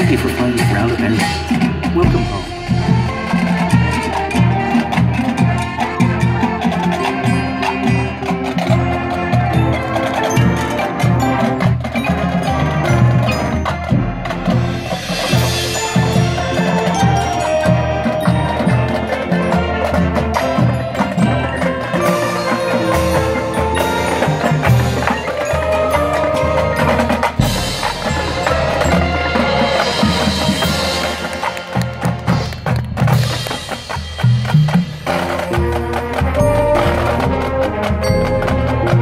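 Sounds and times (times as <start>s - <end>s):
snare and bass drums: 0.0s - 7.9s, 8.6s - 39.0s
marching band brass: 0.0s - 39.0s.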